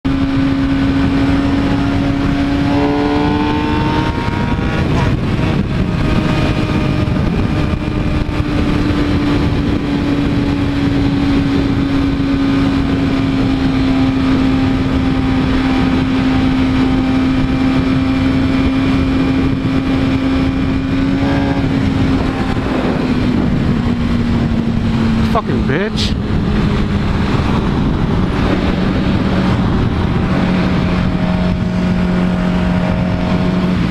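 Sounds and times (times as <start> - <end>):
motorcycle engine drone: 0.0 - 33.9
road and rushing noise: 0.0 - 33.9.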